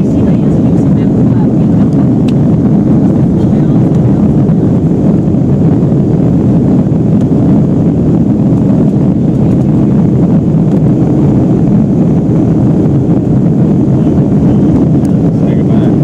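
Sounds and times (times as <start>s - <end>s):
airplane cabin engine noise: 0.0s - 16.0s.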